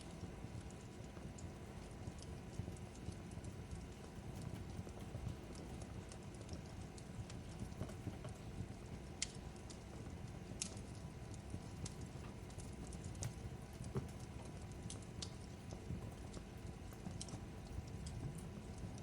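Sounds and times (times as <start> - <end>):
fireplace crackling: 0.0 - 19.0.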